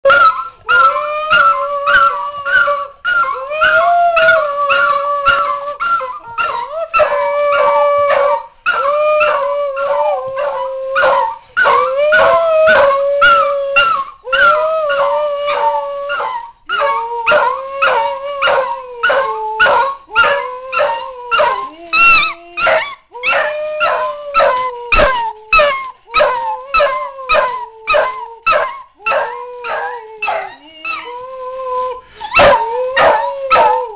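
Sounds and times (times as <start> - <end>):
dog howling: 0.0 - 33.9
man howling: 0.7 - 33.9.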